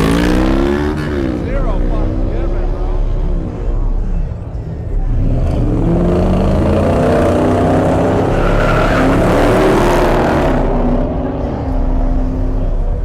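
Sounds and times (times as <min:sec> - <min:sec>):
car engine revving hard: 0:00.0 - 0:04.2, 0:04.9 - 0:13.0.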